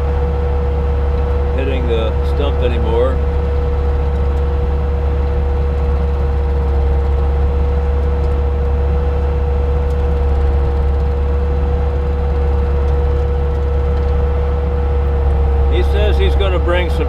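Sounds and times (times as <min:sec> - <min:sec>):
diesel engine running: 0:00.0 - 0:17.0
stump grinder whine: 0:00.0 - 0:17.0.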